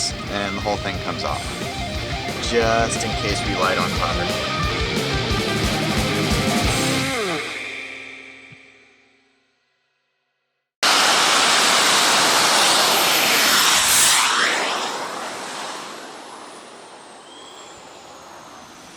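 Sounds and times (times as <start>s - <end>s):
jet turbine engine rushing: 0.0s - 8.5s, 10.8s - 18.9s.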